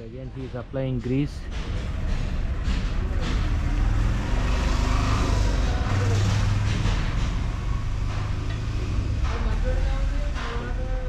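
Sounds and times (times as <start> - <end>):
vehicle engine running: 1.0 - 11.0.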